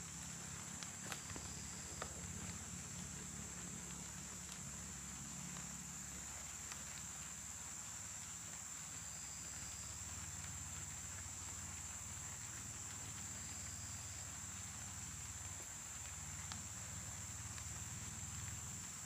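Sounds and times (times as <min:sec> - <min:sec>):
faint ticks: 0:00.0 - 0:19.0
insects droning: 0:00.0 - 0:19.0.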